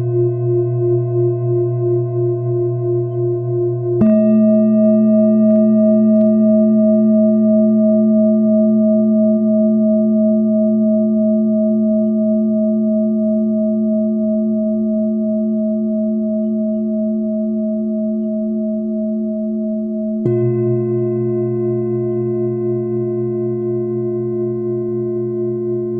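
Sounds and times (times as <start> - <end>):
singing bowl ringing: 0.0 - 25.9.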